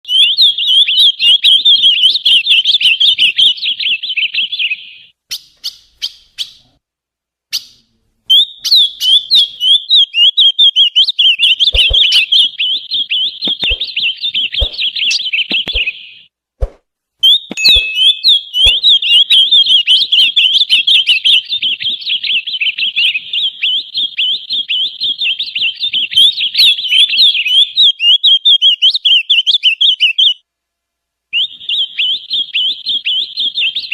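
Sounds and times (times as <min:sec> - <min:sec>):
bird warbling song: 0:00.1 - 0:06.7, 0:07.5 - 0:16.3, 0:17.2 - 0:30.4, 0:31.4 - 0:33.9.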